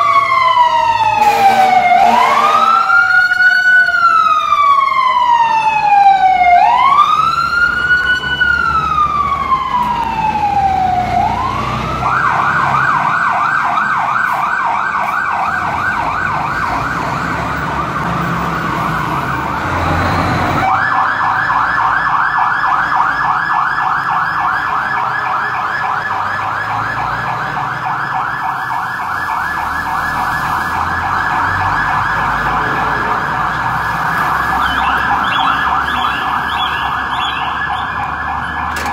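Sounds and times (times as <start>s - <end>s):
electronic sirens wailing and yelping: 0.0s - 38.9s.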